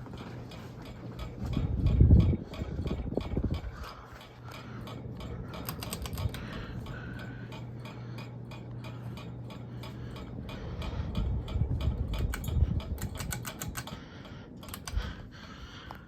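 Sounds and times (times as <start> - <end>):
ceiling fan motor hum: 0.0 - 16.0
fast ticking of wobbling fan: 0.0 - 16.0.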